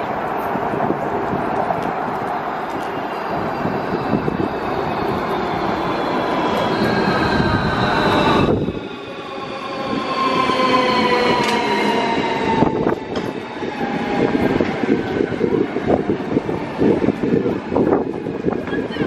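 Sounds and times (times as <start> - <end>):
electric train traction whine: 0.0 - 18.6
wheels rumbling on rail: 0.0 - 19.0.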